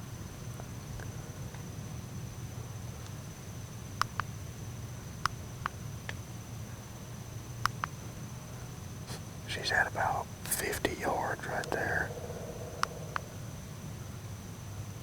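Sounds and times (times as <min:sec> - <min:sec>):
high insect drone: 0:00.0 - 0:15.0
low background hum: 0:00.0 - 0:15.0.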